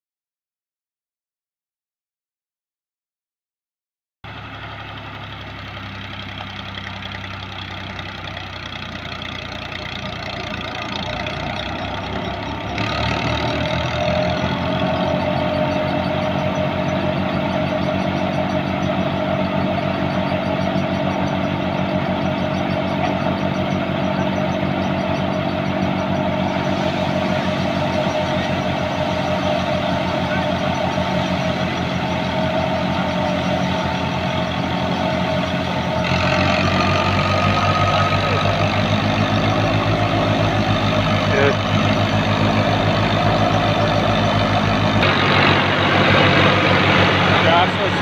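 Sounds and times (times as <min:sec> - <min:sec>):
tractor diesel engine running: 0:04.3 - 0:48.0
thresher whine: 0:08.7 - 0:48.0.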